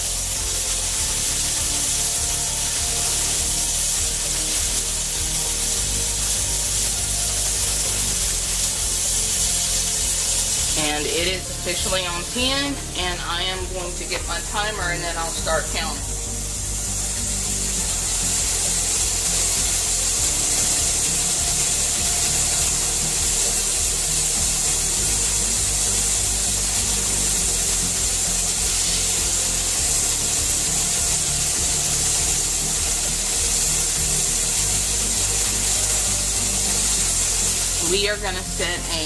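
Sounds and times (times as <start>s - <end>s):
steam hissing from pressure canner: 0.0s - 39.0s.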